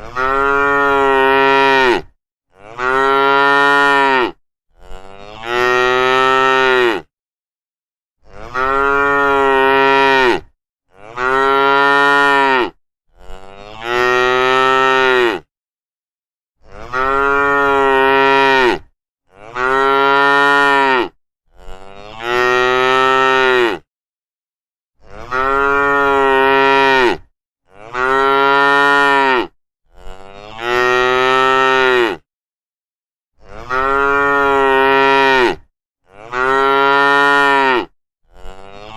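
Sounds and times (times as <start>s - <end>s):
cattle mooing: 0.0s - 7.1s, 8.2s - 15.5s, 16.8s - 23.8s, 25.1s - 32.2s, 33.5s - 38.9s.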